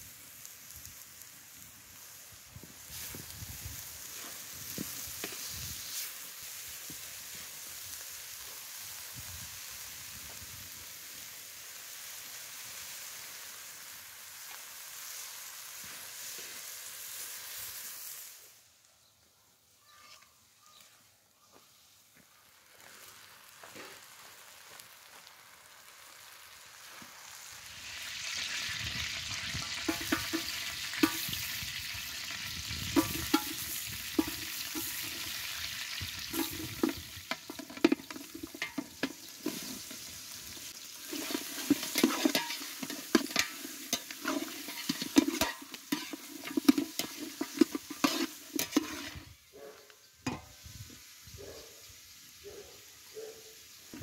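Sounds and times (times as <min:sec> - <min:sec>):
food sizzling in a metal pan: 0:00.0 - 0:19.1, 0:19.7 - 0:54.0.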